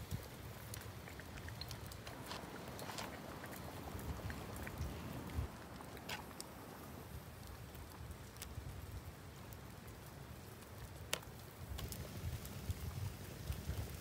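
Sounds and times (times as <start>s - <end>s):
faint wind rumble: 0.0s - 14.0s.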